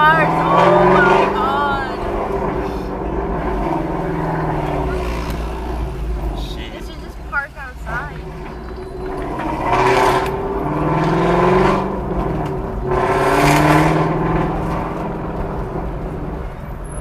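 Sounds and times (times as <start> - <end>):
car engines revving: 0.0 - 17.0
engine rumble: 0.0 - 17.0.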